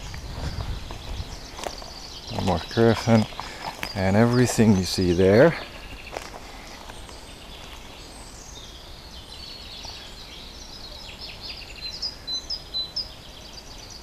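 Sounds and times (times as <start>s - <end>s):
faint outdoor background noise: 0.0s - 14.0s
songbirds chirping and trilling: 0.0s - 14.0s.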